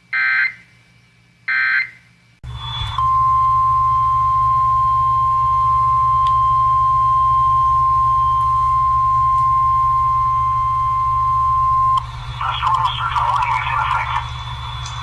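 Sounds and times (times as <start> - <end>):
low radio hum: 2.4 - 15.0.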